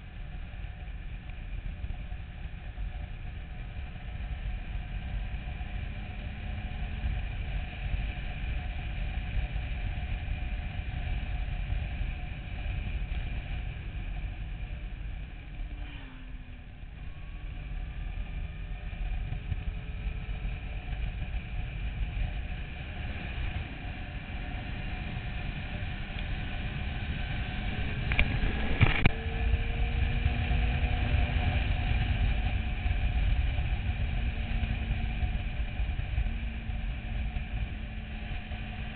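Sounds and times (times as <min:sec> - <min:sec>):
motorcycle engine accelerating: 0:00.0 - 0:38.9
wind rushing over microphone: 0:06.8 - 0:38.9.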